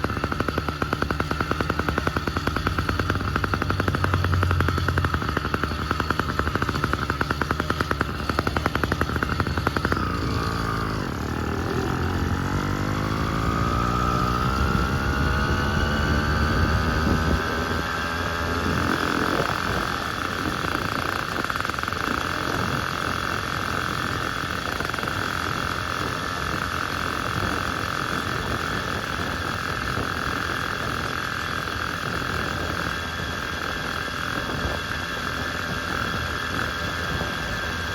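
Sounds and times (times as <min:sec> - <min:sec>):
two-stroke engine running: 0:00.0 - 0:37.9.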